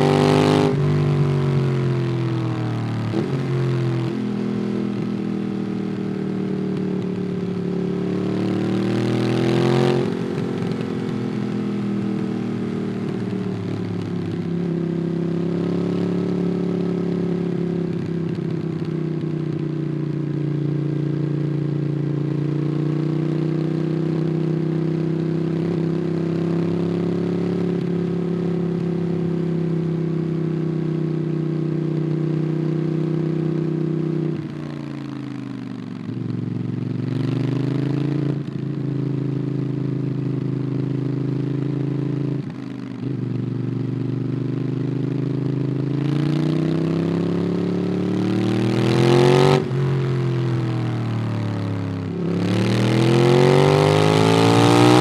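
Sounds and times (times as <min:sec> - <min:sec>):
motorcycle engine revving: 0:00.0 - 0:35.3, 0:36.1 - 0:55.0.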